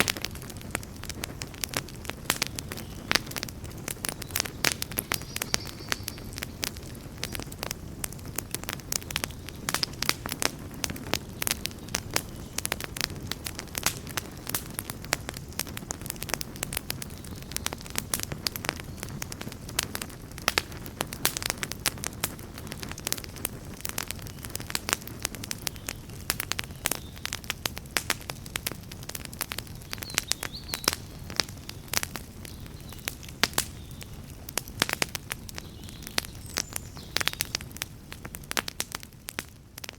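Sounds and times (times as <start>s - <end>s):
flames rumbling: 0.0s - 39.9s
wood crackling and popping: 0.0s - 39.9s.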